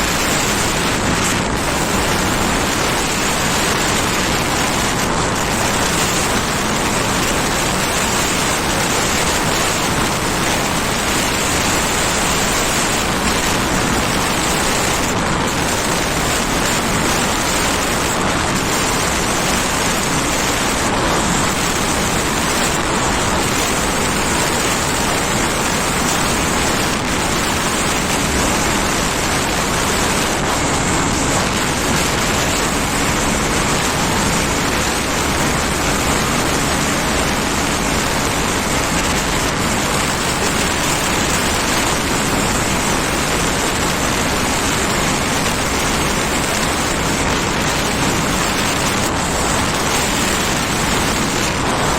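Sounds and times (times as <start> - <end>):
road and scooter noise: 0.0 - 51.9
wind rush on microphone: 0.0 - 51.9.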